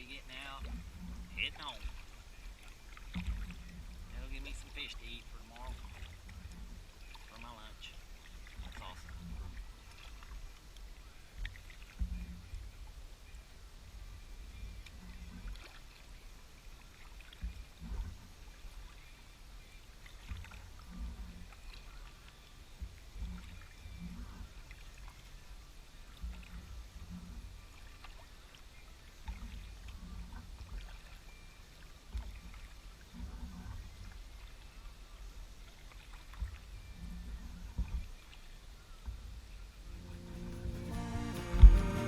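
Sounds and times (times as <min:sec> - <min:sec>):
kayak paddle strokes in water: 0:00.0 - 0:13.4, 0:14.0 - 0:34.9, 0:35.5 - 0:42.0.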